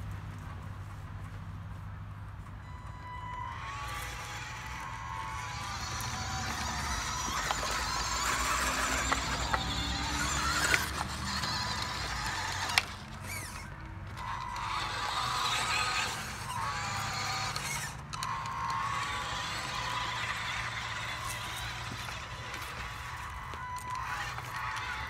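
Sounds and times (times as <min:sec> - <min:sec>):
toy truck motor whining: 0:02.6 - 0:25.0
tyres grinding on grit: 0:03.4 - 0:25.0.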